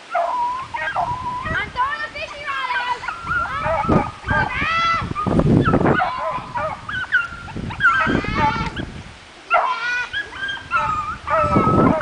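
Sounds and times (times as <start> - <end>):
dogs baying and yelping: 0.0 - 8.9, 9.5 - 12.0.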